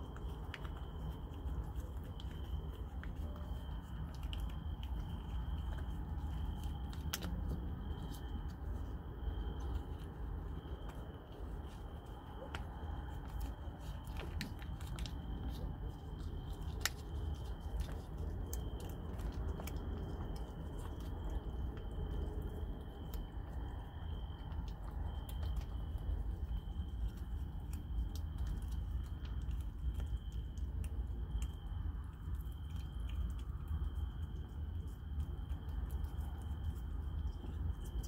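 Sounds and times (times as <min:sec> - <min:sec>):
faint high whine: 0:00.0 - 0:38.0
kitten chewing and licking food: 0:00.0 - 0:38.0
steady low rumble: 0:00.0 - 0:38.0.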